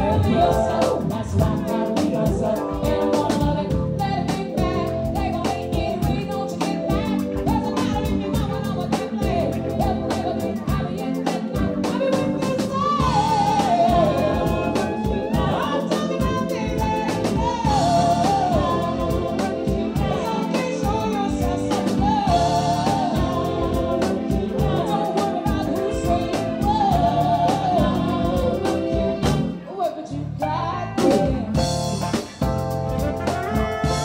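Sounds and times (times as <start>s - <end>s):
steady drumbeat: 0.0s - 29.6s, 31.0s - 34.0s
woman singing along: 0.0s - 31.6s
keyboards: 0.0s - 34.0s
woman singing lead: 0.0s - 34.0s.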